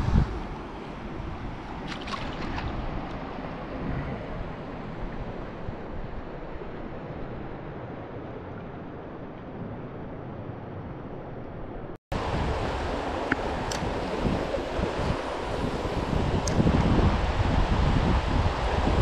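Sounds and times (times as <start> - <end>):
water noise: 0.0 - 19.0
wind: 0.0 - 19.0.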